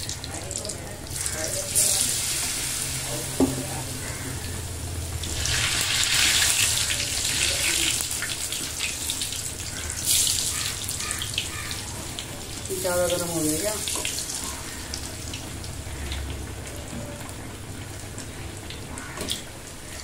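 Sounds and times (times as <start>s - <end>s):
deep-frying sizzle in hot oil: 0.0s - 20.0s.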